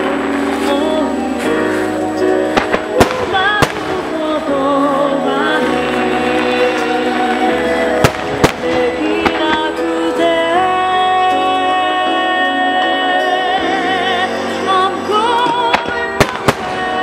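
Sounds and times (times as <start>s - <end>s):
fireworks bursting with bangs: 0.0s - 17.0s
loud music with singing: 0.0s - 17.0s.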